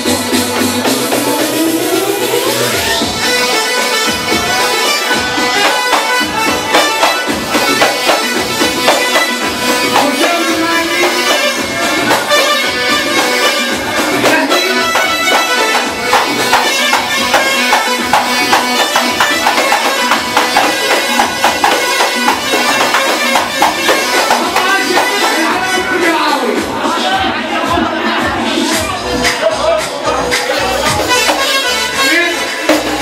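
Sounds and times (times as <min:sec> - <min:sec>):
reedy wind instrument melody: 0:00.0 - 0:26.6, 0:27.9 - 0:33.0
fast steady drumming: 0:00.0 - 0:33.0.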